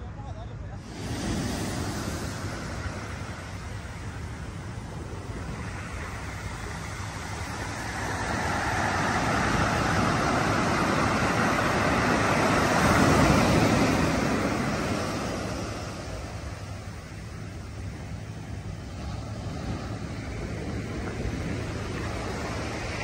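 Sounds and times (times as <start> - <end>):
ocean wave breaking on sand: 0.8 - 23.0.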